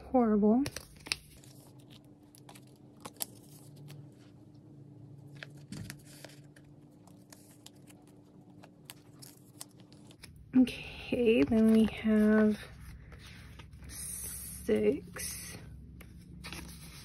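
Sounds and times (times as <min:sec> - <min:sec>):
plastic sleeves crinkling: 0:00.6 - 0:04.6, 0:05.2 - 0:17.0.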